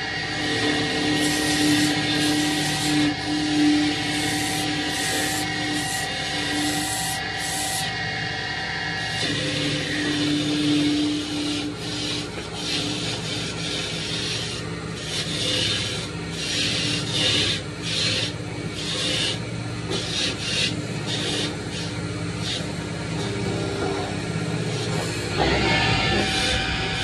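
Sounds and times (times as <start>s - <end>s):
lathe motor running: 0.0s - 27.0s
harsh rasping and rubbing: 0.2s - 7.9s, 9.0s - 27.0s.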